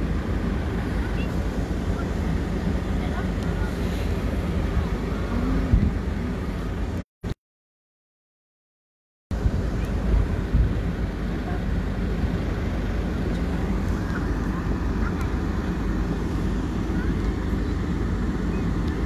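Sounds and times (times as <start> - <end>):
faint distant voices: 0.0 - 7.0, 9.5 - 19.0
low outdoor rumble: 0.0 - 7.0, 9.3 - 19.0.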